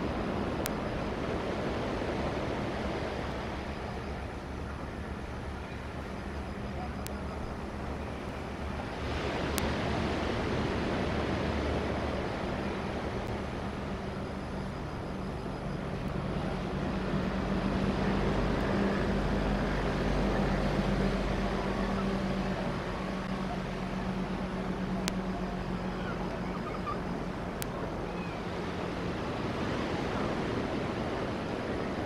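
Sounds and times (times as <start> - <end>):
diesel train engine drone: 0.0 - 32.0
train rolling noise: 0.0 - 32.0.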